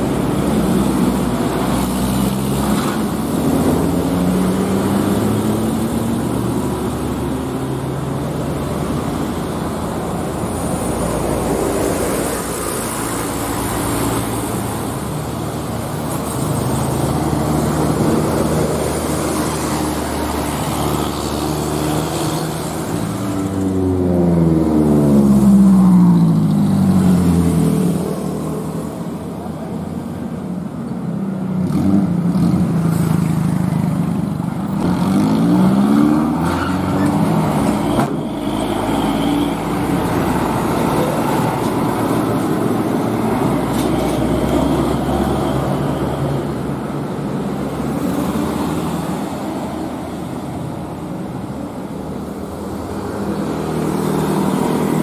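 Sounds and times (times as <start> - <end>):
heavy diesel vehicles driving past: 0.0 - 55.0.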